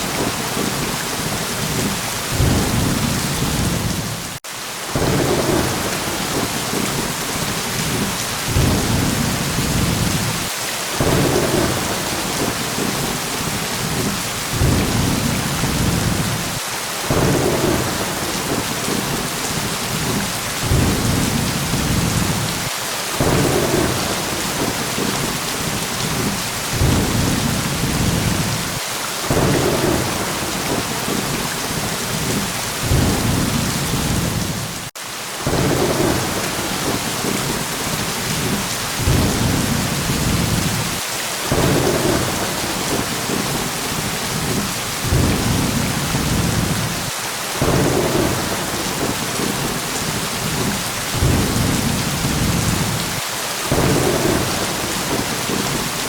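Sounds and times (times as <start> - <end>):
heavy rain: 0.0 - 56.0
low thunder rumbles: 0.0 - 56.0.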